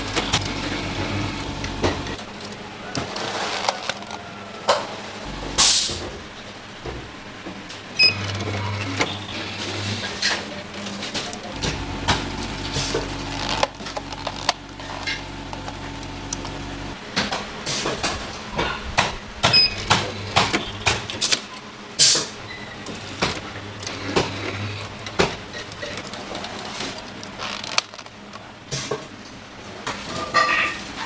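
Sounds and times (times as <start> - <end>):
machine hum: 0.0 - 29.9.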